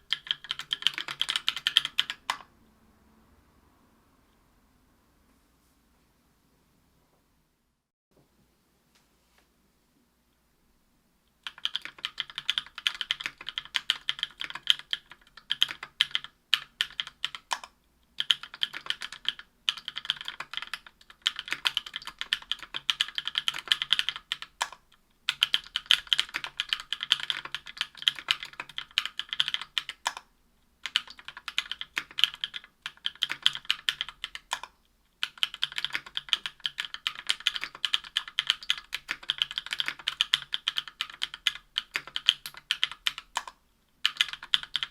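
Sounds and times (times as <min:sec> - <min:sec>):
fast keyboard typing: 0:00.0 - 0:02.5, 0:11.4 - 0:44.9.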